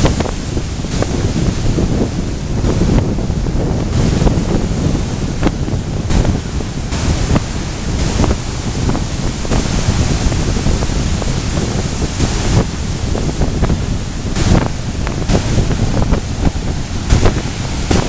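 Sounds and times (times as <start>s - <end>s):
surf washing: 0.0s - 18.0s
wind buffeting microphone: 0.0s - 18.0s.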